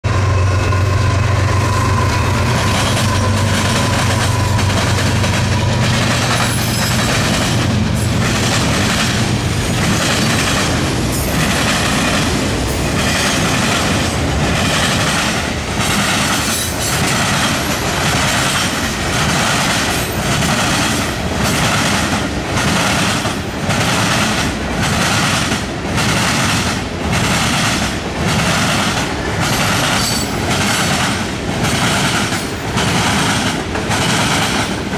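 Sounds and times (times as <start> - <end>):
diesel locomotive engines humming: 0.0 - 34.9
train wheels clacking: 0.0 - 34.9.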